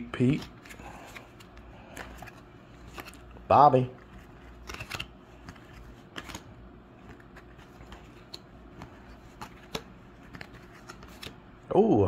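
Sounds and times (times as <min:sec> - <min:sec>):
cards rustling and snapping: 0:00.1 - 0:11.4.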